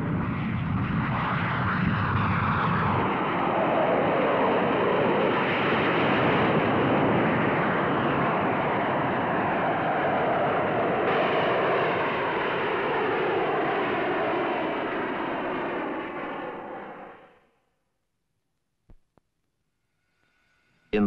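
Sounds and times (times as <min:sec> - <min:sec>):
jet aircraft roar flying past: 0:00.0 - 0:17.3.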